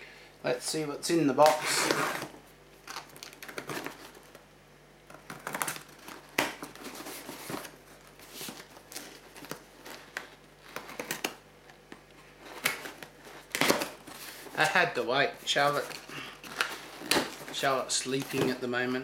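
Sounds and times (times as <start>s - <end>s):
cardboard crinkling and tearing: 1.4s - 4.4s, 5.1s - 11.4s, 12.2s - 18.7s.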